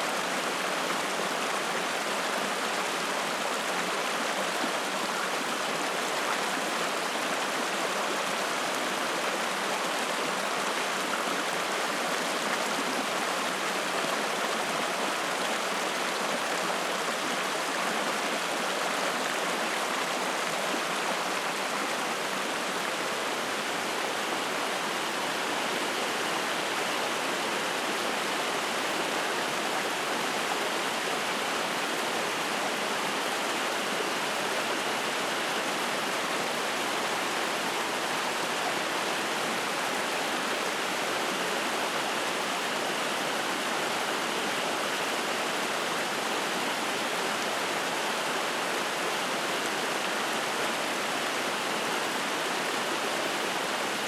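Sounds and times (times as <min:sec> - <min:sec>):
stream rushing and splashing: 0:00.0 - 0:54.0.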